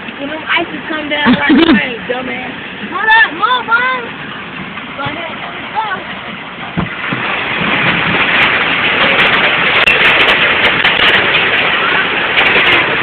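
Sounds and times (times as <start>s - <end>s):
hail rattling on hard surfaces: 0.0s - 13.0s.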